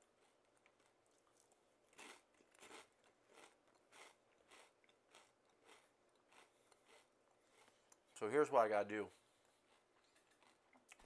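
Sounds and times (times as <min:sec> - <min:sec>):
person chewing crunchy chips: 0:00.0 - 0:08.1, 0:09.5 - 0:11.0.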